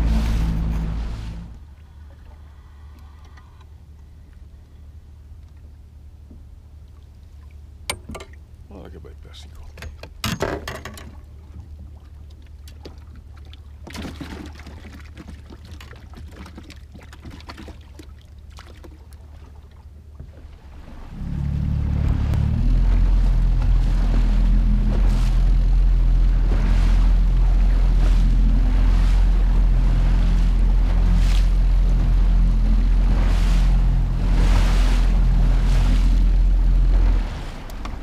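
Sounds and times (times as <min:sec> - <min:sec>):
outboard motor: 0:00.0 - 0:38.0.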